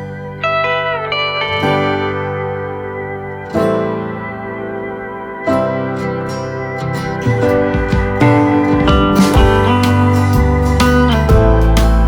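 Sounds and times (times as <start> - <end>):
guitar music with bass: 0.0 - 12.0.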